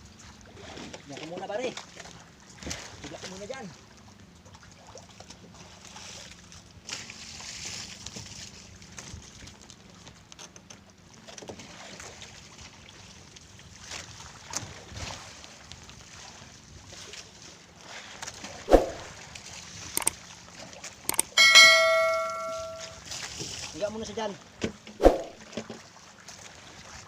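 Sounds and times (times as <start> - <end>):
wind: 0.0 - 27.0.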